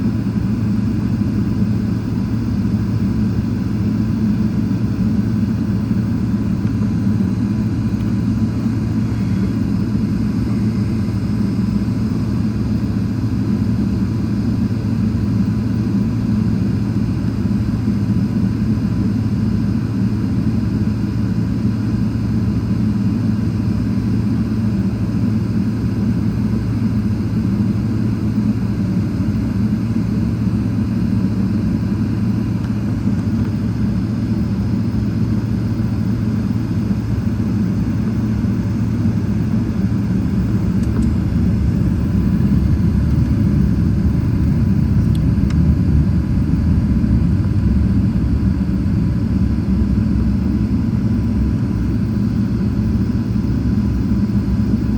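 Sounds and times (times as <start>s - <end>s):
jet engine drone: 0.0s - 54.9s.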